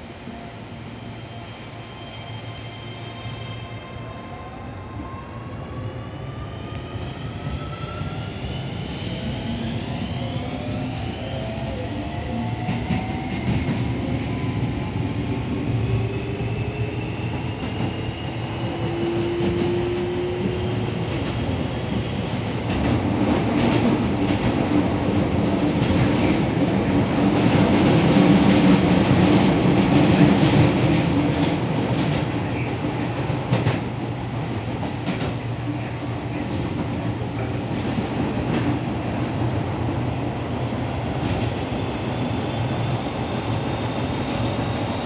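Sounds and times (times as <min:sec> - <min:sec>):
rumble of wheels on rail: 0:06.6 - 0:45.0.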